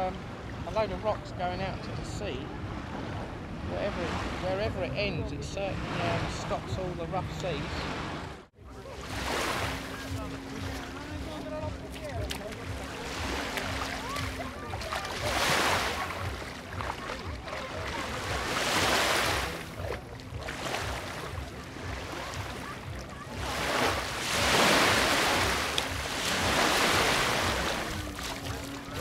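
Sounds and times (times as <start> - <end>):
small waves lapping on sand: 0.0 - 29.0.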